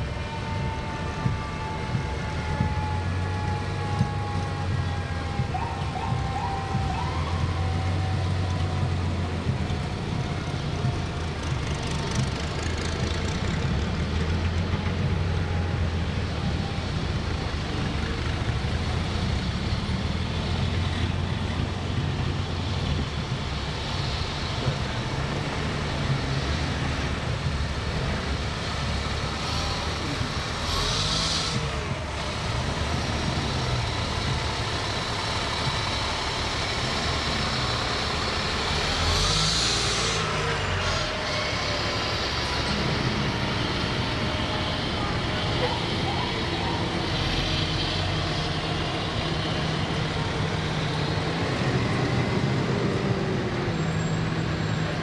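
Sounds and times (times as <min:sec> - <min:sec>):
diesel engines rumbling: 0:00.0 - 0:55.0.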